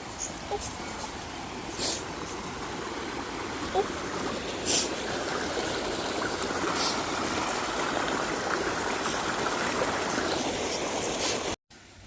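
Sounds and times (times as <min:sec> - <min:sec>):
stream rushing over rocks: 0:00.0 - 0:11.6.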